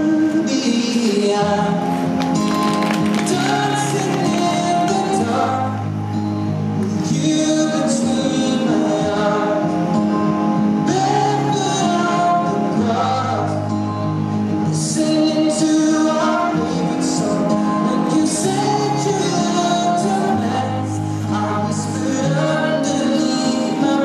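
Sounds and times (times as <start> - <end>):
song with singing and instruments: 0.0 - 24.0.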